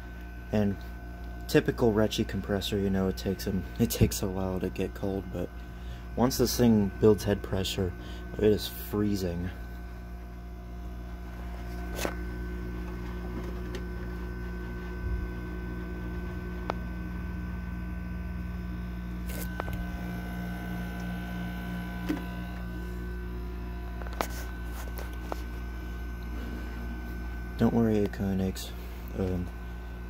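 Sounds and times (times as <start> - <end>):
air conditioner humming: 0.0 - 30.0
fan air rushing: 1.5 - 30.0.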